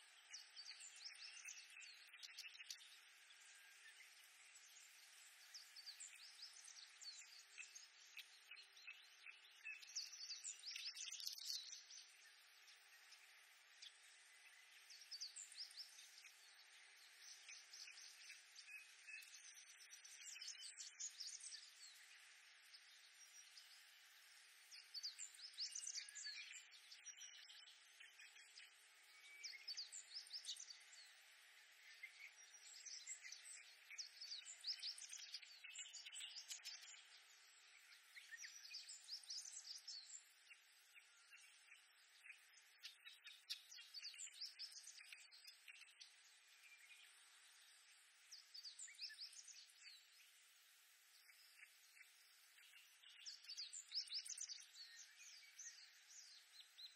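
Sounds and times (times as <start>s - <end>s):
faint steady hiss: 0.0s - 56.9s.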